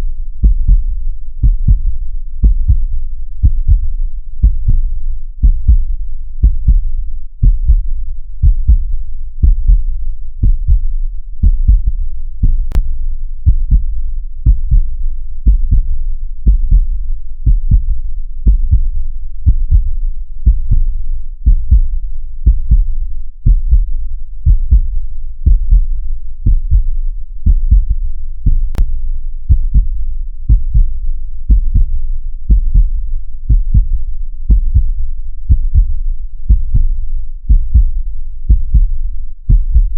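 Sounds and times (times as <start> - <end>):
heartbeat thumps: 0.4 - 39.9.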